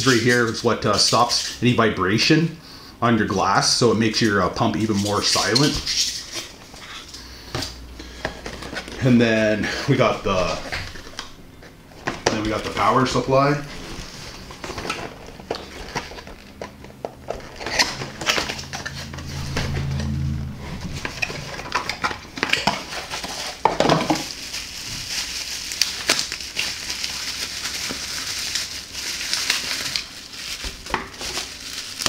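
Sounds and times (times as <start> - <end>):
plastic wrapping crinkling: 0.0 - 1.6, 3.8 - 32.0
low steady hum: 0.0 - 32.0.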